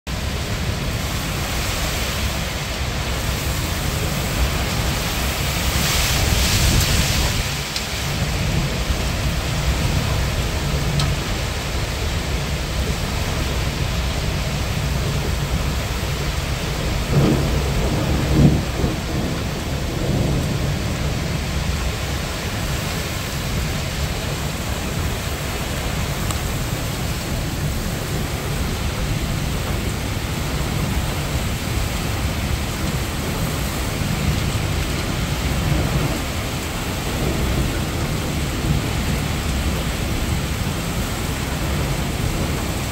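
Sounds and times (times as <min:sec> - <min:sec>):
heavy rain pouring: 0:00.1 - 0:42.9
thunder rumbling: 0:00.1 - 0:42.9.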